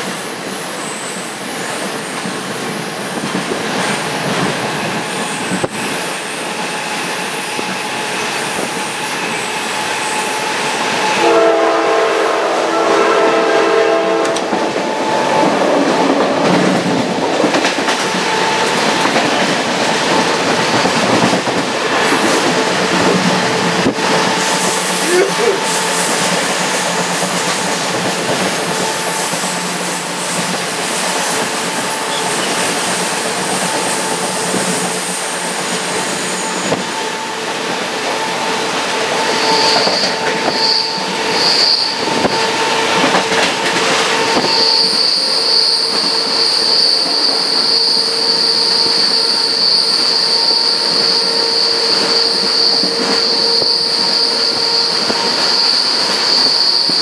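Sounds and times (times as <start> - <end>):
train wheels rumbling on rails: 0.0 - 57.0
wheels squealing against rails: 0.0 - 57.0.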